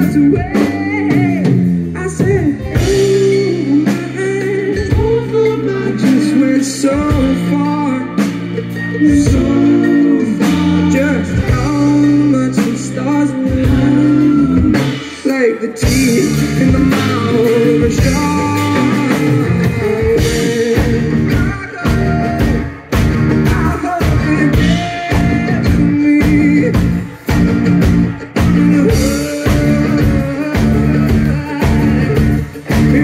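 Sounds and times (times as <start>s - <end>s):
drum kit: 0.0s - 33.0s
electric bass: 0.0s - 33.0s
electric guitar: 0.0s - 33.0s.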